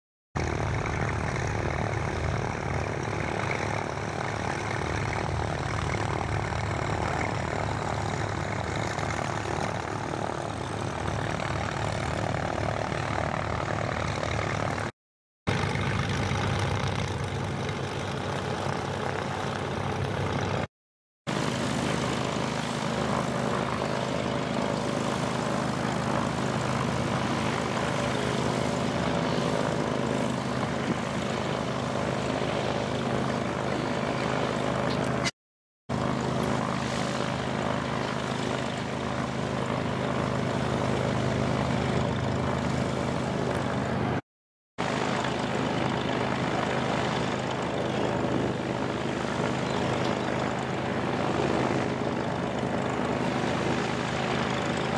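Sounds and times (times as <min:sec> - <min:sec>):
propeller plane engine droning: 0:00.4 - 0:20.7, 0:21.3 - 0:44.2, 0:44.8 - 0:54.9.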